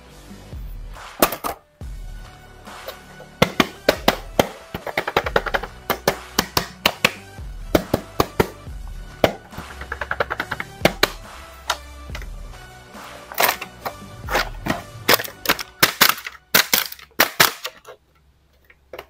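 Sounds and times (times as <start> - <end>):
background music with bass: 0.0 - 16.6.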